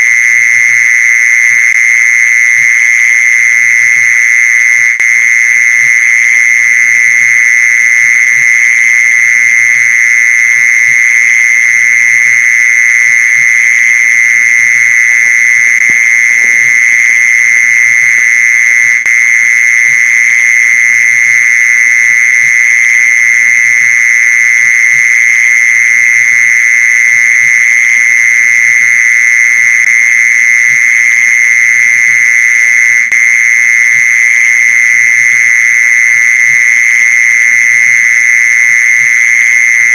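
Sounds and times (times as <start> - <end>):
mole cricket trill: 0.0 - 39.9.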